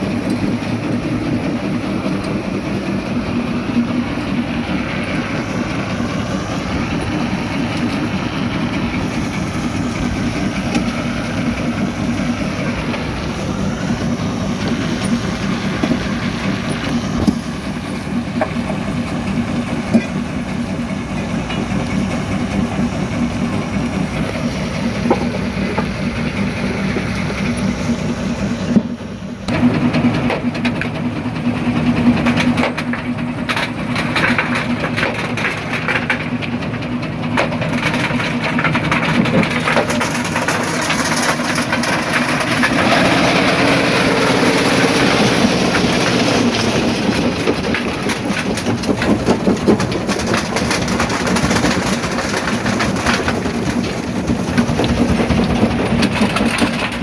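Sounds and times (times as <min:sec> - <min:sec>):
rock crusher rumbling: 0:00.0 - 0:57.0.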